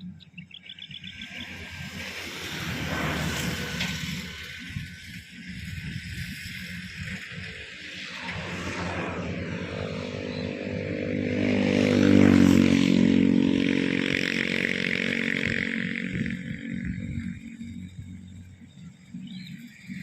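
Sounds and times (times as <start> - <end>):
vehicle engine passing by: 1.1 - 19.7.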